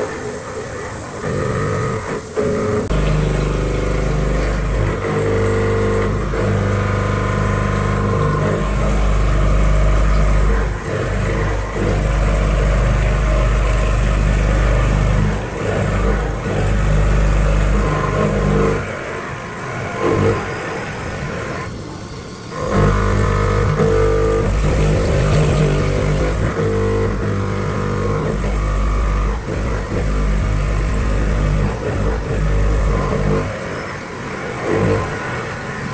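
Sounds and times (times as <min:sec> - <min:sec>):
milling machine hum and whir: 0:00.0 - 0:35.9.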